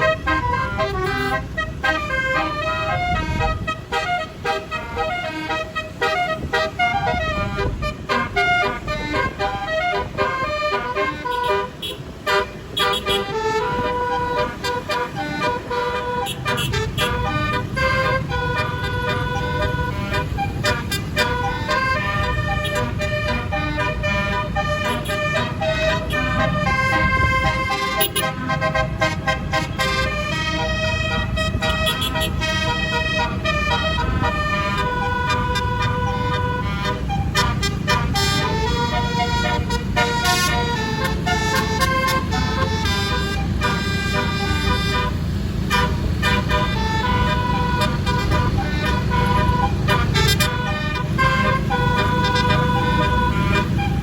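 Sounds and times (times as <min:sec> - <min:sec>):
bus engine rumble: 0:00.0 - 0:54.0
bus horn playing a tune: 0:00.0 - 0:54.0
traffic: 0:00.0 - 0:54.0.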